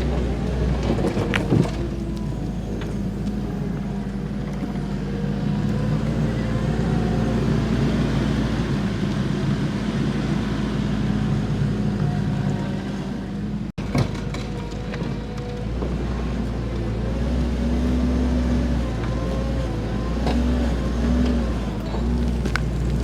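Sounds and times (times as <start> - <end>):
loader diesel engine running: 0.0 - 23.0.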